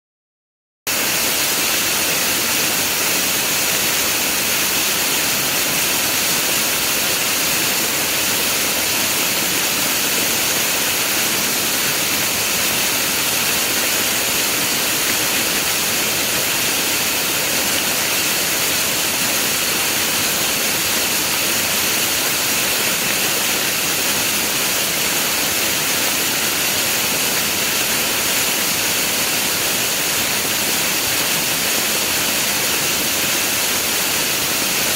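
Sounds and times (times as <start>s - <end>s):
waterfall rushing: 0.9s - 34.9s.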